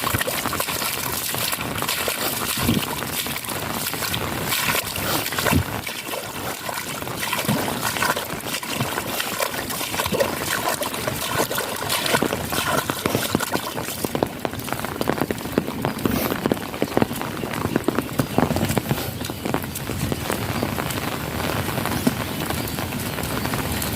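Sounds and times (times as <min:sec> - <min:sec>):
steady rain: 0:00.0 - 0:23.9
water trickling and dripping: 0:00.0 - 0:23.9.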